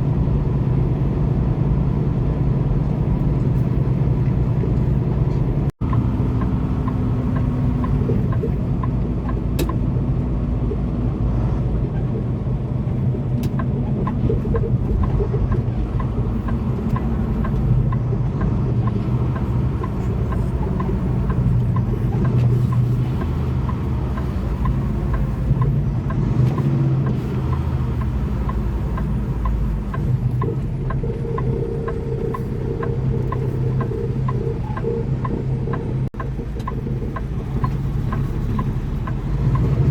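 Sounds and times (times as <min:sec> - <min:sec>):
road noise: 0:00.0 - 0:39.9
truck engine drone: 0:00.0 - 0:39.9.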